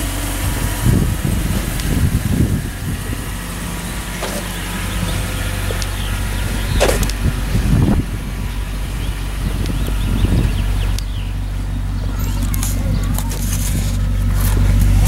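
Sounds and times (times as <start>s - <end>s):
car engine idling: 0.0s - 15.0s
engine throttle blip: 0.0s - 15.0s.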